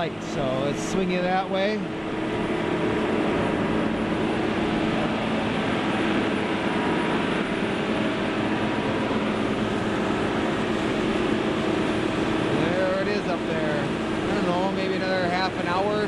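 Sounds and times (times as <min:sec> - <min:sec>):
boat engine running: 0:00.0 - 0:16.0
water rushing: 0:00.0 - 0:16.0.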